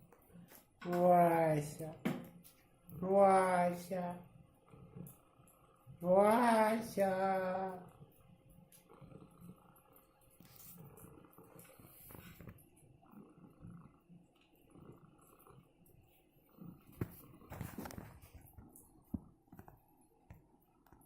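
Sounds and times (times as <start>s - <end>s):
cat purring faintly: 0.0s - 21.0s.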